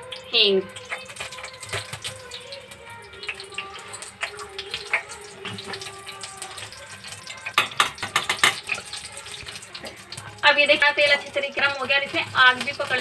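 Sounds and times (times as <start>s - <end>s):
oil popping and crackling: 0.0s - 13.0s
seeds sizzling in hot oil: 0.0s - 13.0s.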